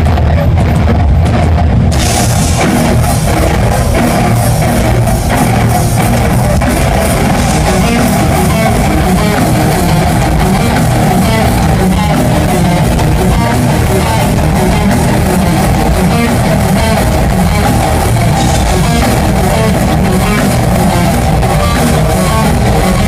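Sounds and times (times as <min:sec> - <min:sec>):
live thrash metal music: 0:00.0 - 0:23.0.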